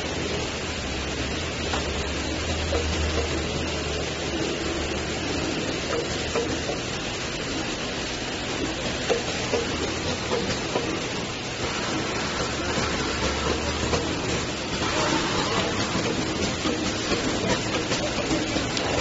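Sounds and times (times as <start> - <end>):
bottling machinery running: 0.0 - 19.0.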